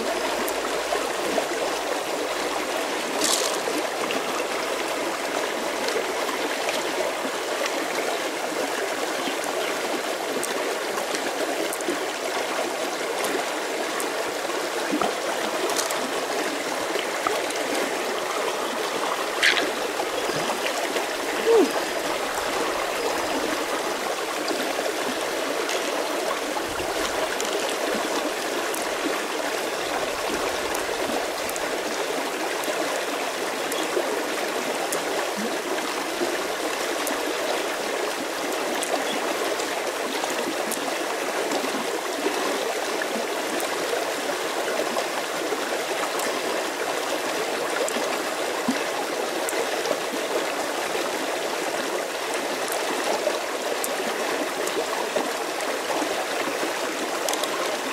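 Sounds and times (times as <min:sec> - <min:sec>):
river stream rushing: 0:00.0 - 0:57.9.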